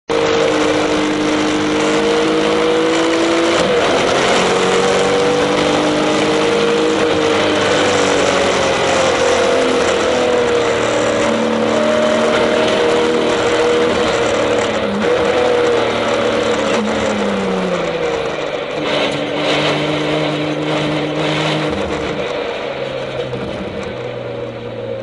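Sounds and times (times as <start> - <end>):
car engine accelerating: 0.1 - 25.0
gear change: 0.1 - 25.0.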